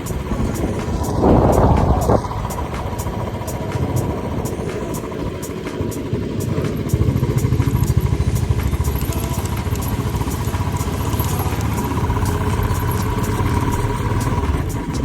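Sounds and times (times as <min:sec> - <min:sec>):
motorcycle engine exhaust pulses: 0:00.0 - 0:15.0.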